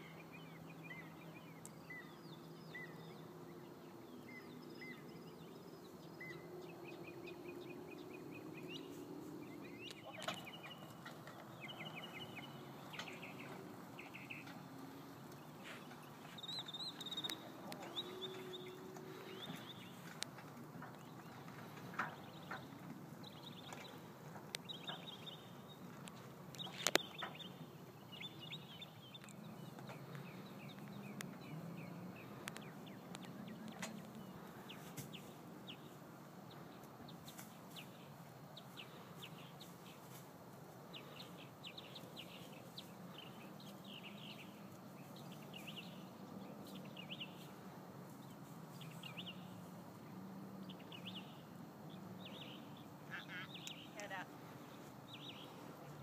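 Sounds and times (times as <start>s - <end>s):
birds calling faintly: 0.0s - 56.0s.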